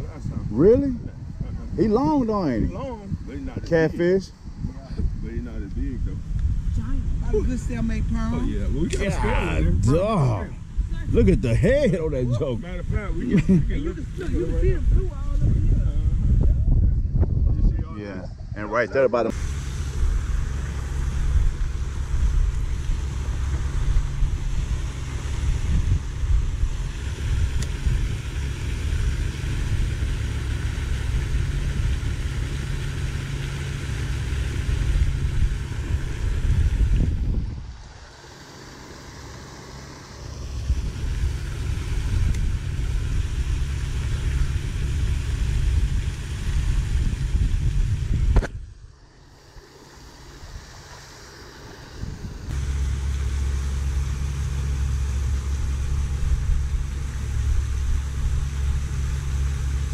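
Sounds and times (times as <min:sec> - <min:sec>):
wind buffeting microphone: 0:00.0 - 0:38.1, 0:40.3 - 0:48.9, 0:51.8 - 0:59.9.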